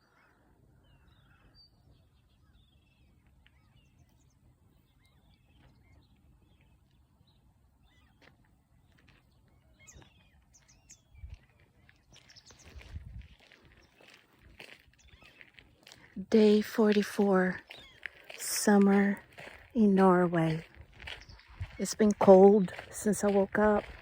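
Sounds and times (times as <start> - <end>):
faint birds chirping: 0.0 - 24.0.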